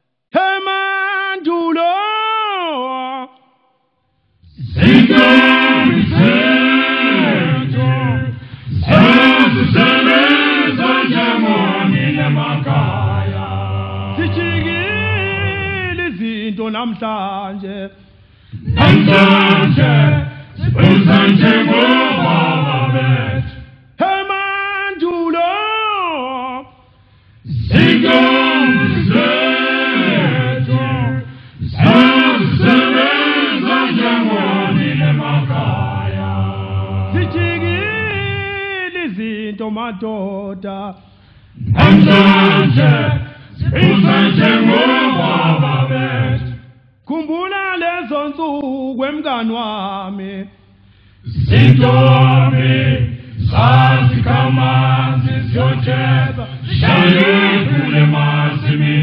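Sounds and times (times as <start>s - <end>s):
male vocal group singing a cappella: 0.4s - 3.4s, 4.5s - 26.8s, 27.4s - 50.6s, 51.2s - 59.0s.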